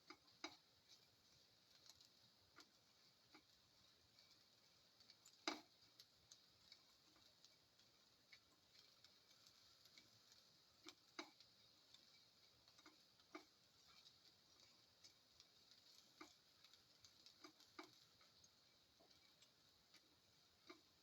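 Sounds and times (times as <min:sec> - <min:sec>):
faint steady hiss: 0:00.0 - 0:21.0
spatula tapping pan: 0:00.0 - 0:21.0.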